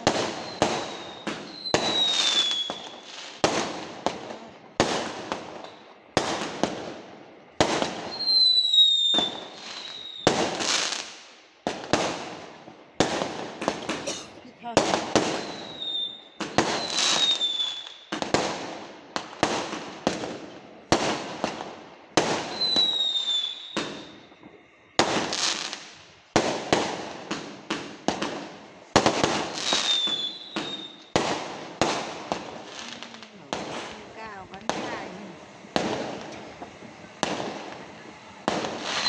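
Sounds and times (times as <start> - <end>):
falling firework whistles: 0.0 - 39.0
fireworks banging: 0.0 - 39.0.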